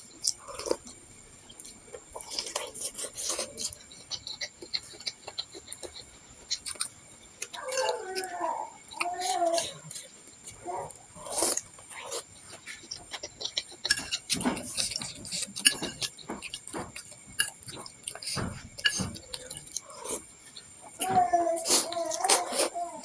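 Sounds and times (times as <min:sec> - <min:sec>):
wet chewing: 0:00.0 - 0:22.8.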